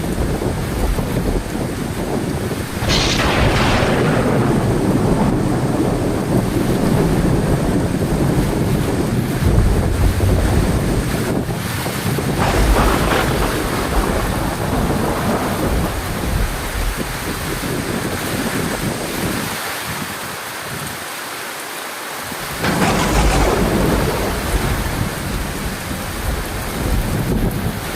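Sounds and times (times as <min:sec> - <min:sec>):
thunder crackles: 0:00.0 - 0:18.9, 0:22.3 - 0:27.9
thunder rumbling: 0:00.0 - 0:18.9, 0:22.3 - 0:27.9
heavy rain: 0:00.0 - 0:27.9.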